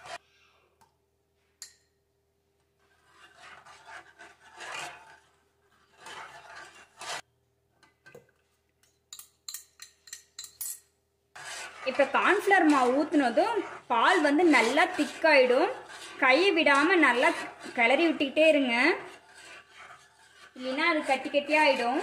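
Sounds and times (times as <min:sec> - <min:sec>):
spoon scraping metal saucepan: 0:00.0 - 0:00.2, 0:02.8 - 0:08.1, 0:08.9 - 0:22.0.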